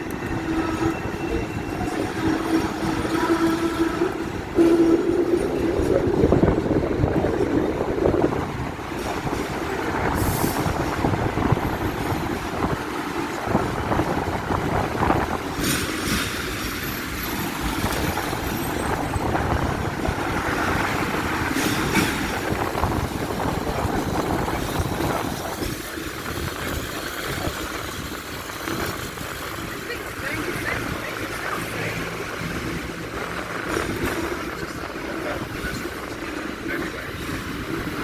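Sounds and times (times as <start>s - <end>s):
tram clanking and rattling: 0.0s - 38.0s
tram rumbling on rails: 0.0s - 38.0s.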